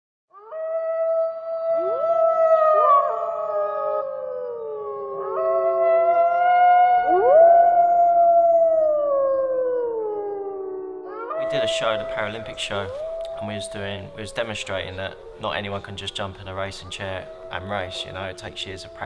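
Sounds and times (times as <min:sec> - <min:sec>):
wolves howling: 0:00.4 - 0:19.0.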